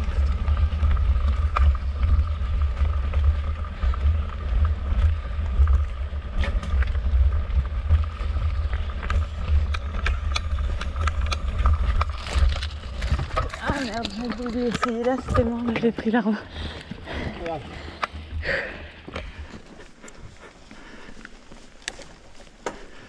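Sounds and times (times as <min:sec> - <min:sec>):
bike ticks and rattles: 0:00.0 - 0:23.0.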